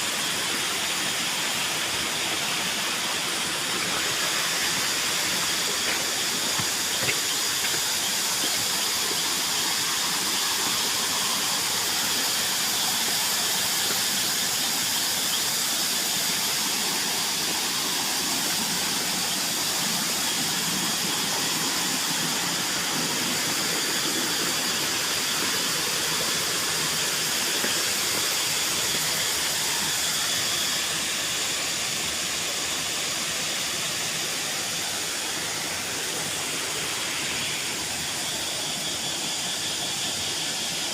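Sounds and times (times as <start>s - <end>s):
cicadas droning: 0.0s - 40.9s
waterfall rushing: 0.0s - 40.9s.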